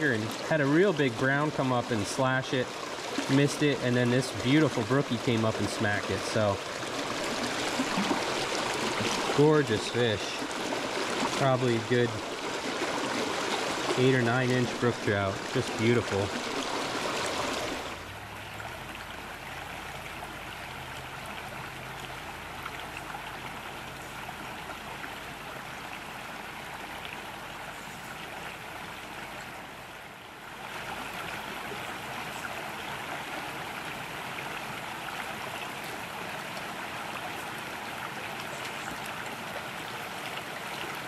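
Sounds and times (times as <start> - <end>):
brook flowing over rocks: 0.0 - 41.0.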